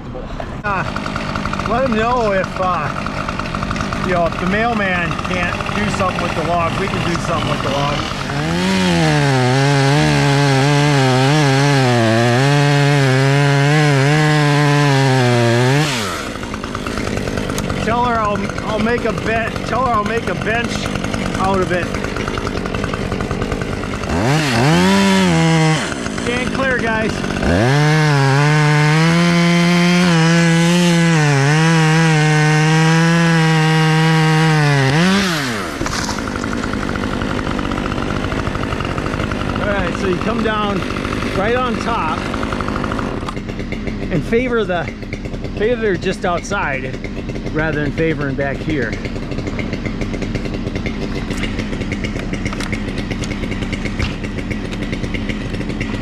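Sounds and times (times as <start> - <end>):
chainsaw idling: 0.4 - 56.0
chainsaw cutting wood: 0.6 - 56.0.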